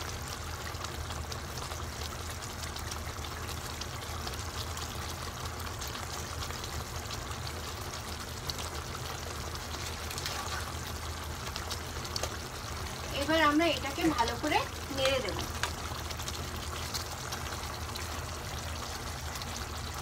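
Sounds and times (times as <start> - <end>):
curry simmering and sizzling: 0.0 - 20.0.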